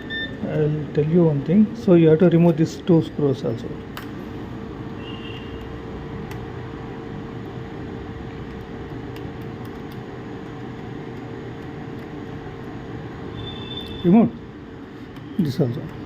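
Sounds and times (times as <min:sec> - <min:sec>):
mechanical fan hum: 0:00.0 - 0:16.0.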